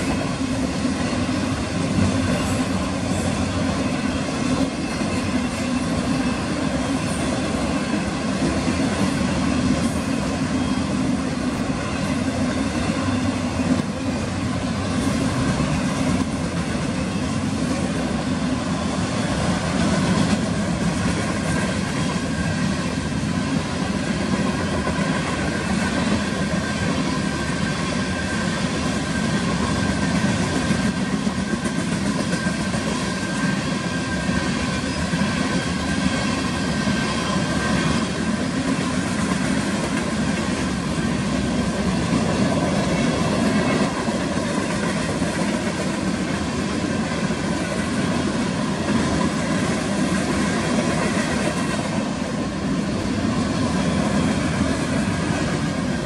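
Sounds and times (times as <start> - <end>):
steel wheels rolling on rails: 0.0 - 56.0.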